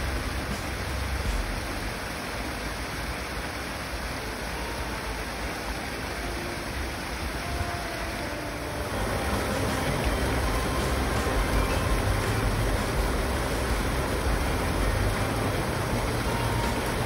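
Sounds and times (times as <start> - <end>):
waterfall splashing into pool: 0.0 - 17.0.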